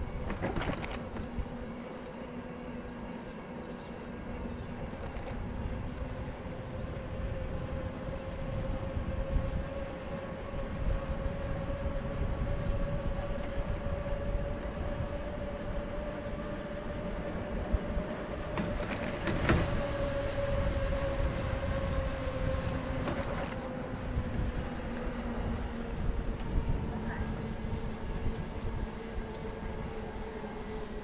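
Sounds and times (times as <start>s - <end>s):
low rumble of tyres: 0.0s - 31.0s
wind on microphone: 4.2s - 31.0s.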